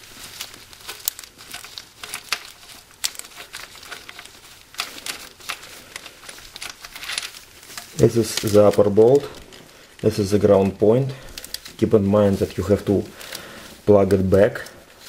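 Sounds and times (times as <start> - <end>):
glove crinkling: 0.0 - 15.0.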